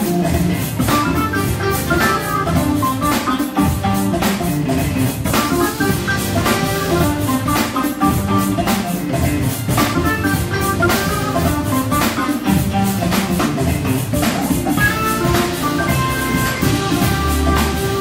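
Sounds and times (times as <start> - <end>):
electric guitar: 0.0 - 18.0
organ: 0.0 - 18.0
steady drum beat: 0.0 - 18.0.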